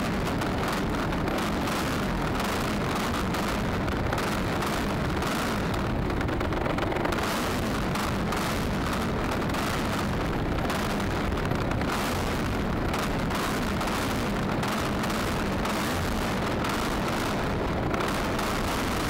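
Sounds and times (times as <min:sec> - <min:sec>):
propeller plane engine running: 0:00.0 - 0:19.0.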